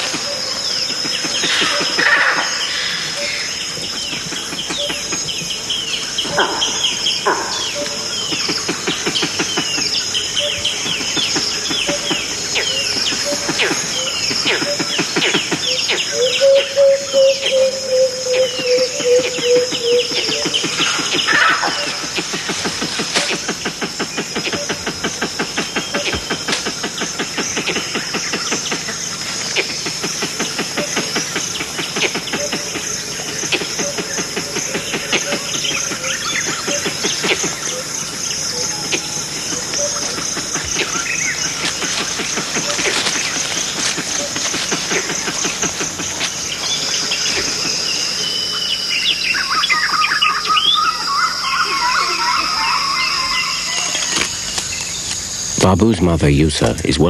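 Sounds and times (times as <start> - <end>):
birds whistling calls: 0.0 - 55.6
insect chorus buzzing drone: 0.0 - 57.0.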